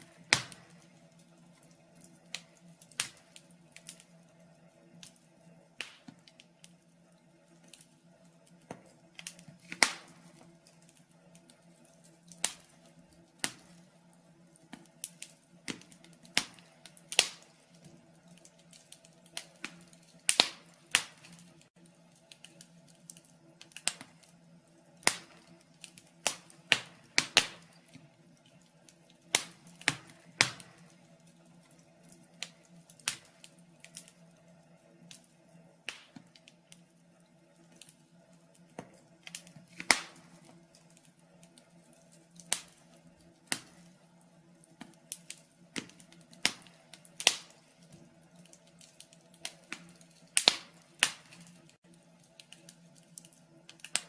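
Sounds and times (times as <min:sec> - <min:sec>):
faint steady hum: 0:00.0 - 0:54.0
wood fire crackling in fireplace: 0:00.0 - 0:54.0.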